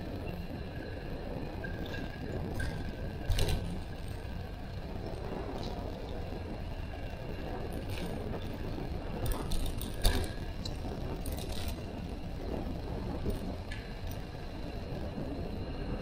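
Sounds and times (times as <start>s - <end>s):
wind: 0.0s - 16.0s
sharp bicycle rattles: 1.6s - 15.2s.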